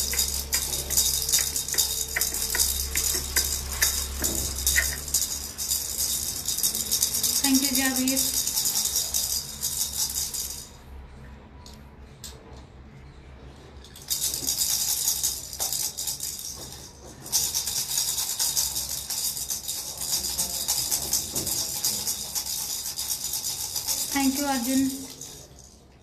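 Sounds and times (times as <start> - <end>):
plastic toy rattle shaken: 0.0 - 10.8, 13.8 - 26.0.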